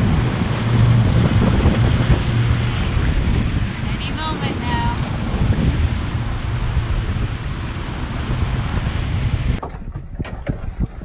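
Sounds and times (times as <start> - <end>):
sea water washing: 0.0 - 11.0
wind buffeting microphone: 0.0 - 11.0.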